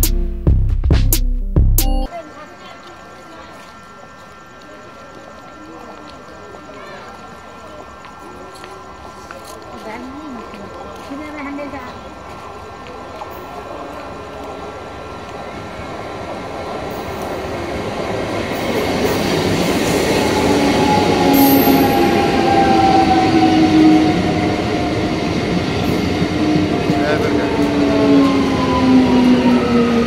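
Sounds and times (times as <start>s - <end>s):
train rolling rumble: 2.9s - 30.0s.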